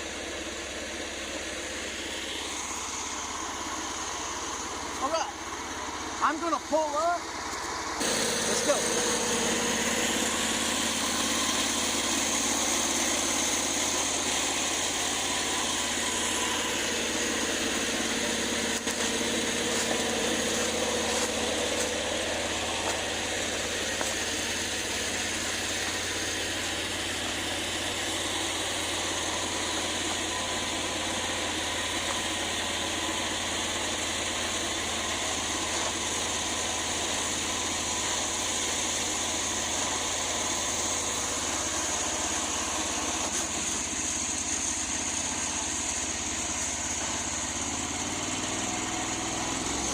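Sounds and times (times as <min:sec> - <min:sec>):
go-kart engine idling: 0:00.0 - 0:49.9.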